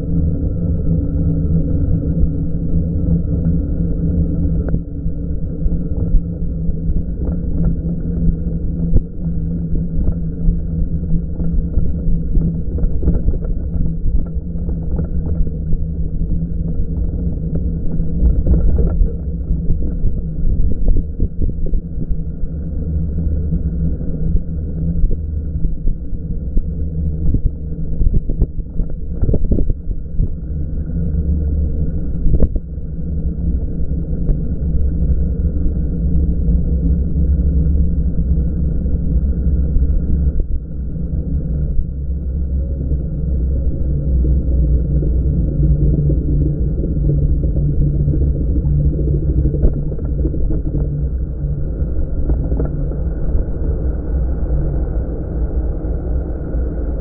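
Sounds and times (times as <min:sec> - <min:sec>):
low droning tones: 0:00.0 - 0:57.0
wind and riding rumble: 0:00.0 - 0:57.0.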